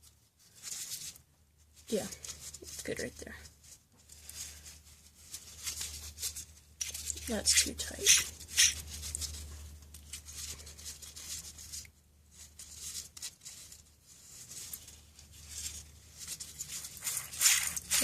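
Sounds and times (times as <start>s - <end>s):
rustles of tools and parts: 0.0s - 18.0s.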